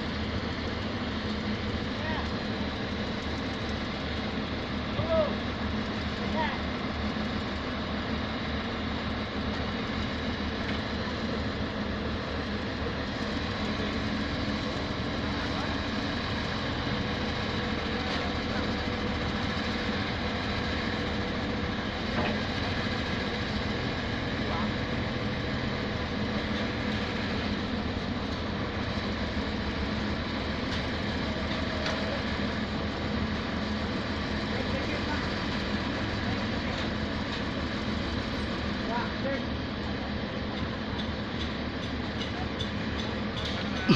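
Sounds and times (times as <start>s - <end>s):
pile driver engine running: 0.0s - 43.9s.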